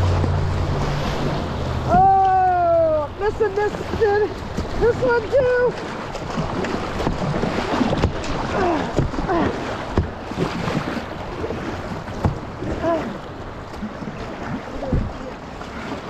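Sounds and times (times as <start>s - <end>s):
rushing whitewater: 0.0s - 16.0s.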